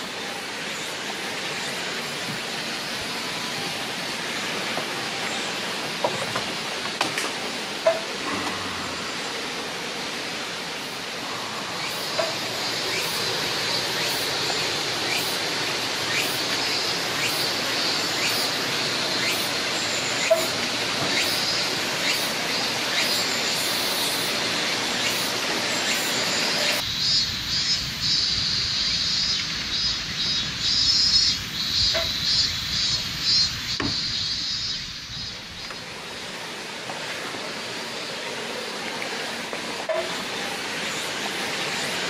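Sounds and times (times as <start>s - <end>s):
steady rushing hiss: 0.0s - 42.0s.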